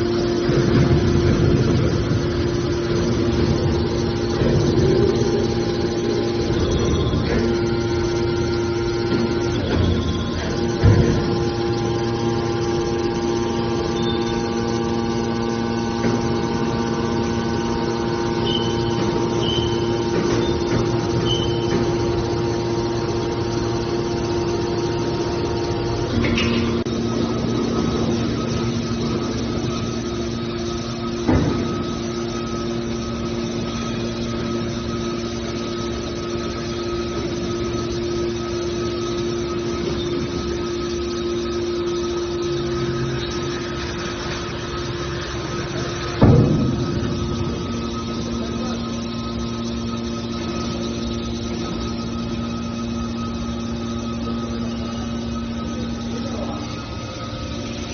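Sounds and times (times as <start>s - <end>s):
baler mechanical hum: 0.0s - 57.9s.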